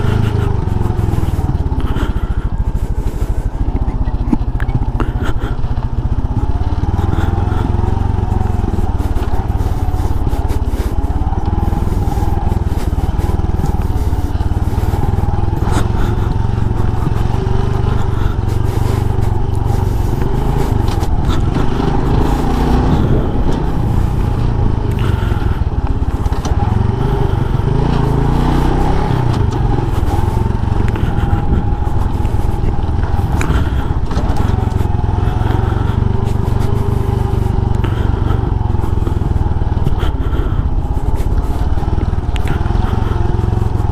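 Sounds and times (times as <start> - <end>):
motorbike engine running: 0.0 - 43.9.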